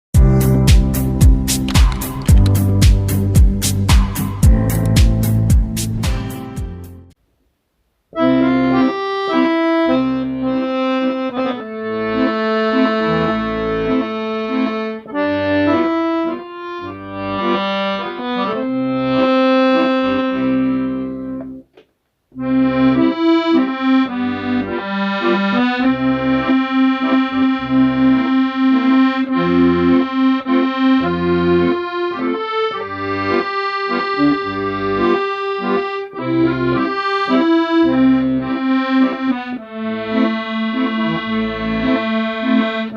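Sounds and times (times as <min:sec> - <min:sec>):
accordion playing slow melody: 0:00.2 - 0:07.2, 0:08.1 - 0:21.6, 0:22.4 - 0:42.9.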